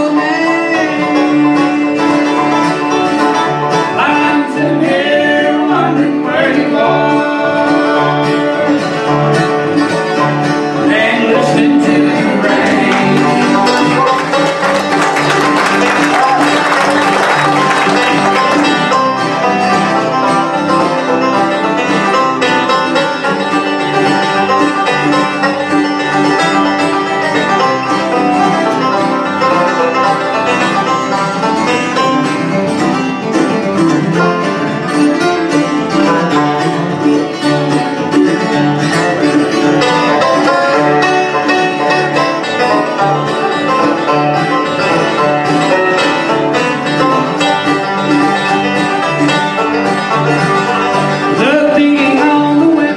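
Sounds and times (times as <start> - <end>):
banjo: 0.0 - 52.9
bluegrass band playing: 0.0 - 52.9.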